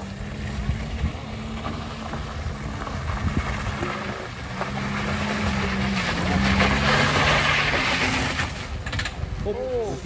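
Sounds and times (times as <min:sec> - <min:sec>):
car engine pulling hard: 0:00.0 - 0:09.6
tyres grinding on gravel: 0:00.0 - 0:10.0.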